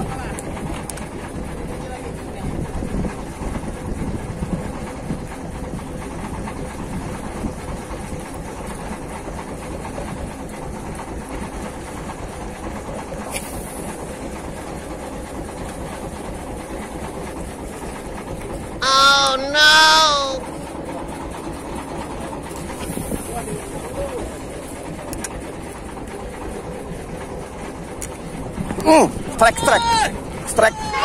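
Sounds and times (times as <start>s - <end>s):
boat engine running: 0.0s - 31.0s
choppy water: 0.0s - 31.0s
wind: 0.0s - 31.0s.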